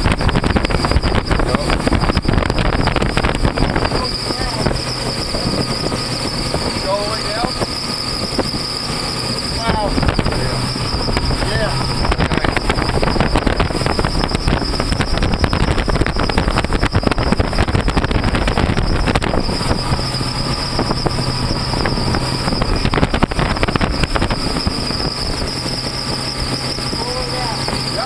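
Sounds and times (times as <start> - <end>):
wind rushing past: 0.0 - 27.0
outboard motors at high throttle: 0.0 - 28.0.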